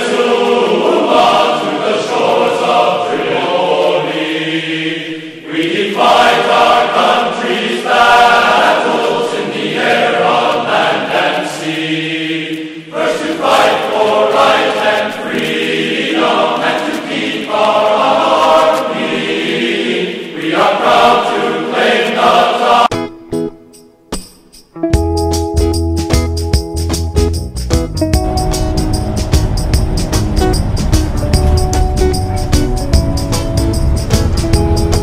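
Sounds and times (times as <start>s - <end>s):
choir singing held phrases: 0.0s - 22.9s, 28.2s - 35.0s.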